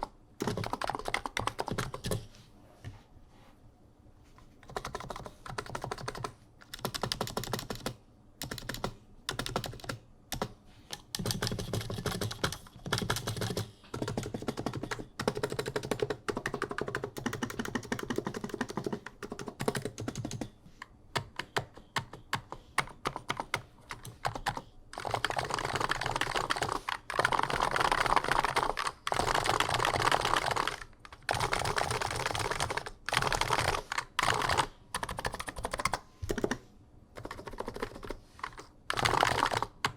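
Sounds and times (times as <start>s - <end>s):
thocky keyboard typing: 0.0s - 2.3s, 4.6s - 39.9s.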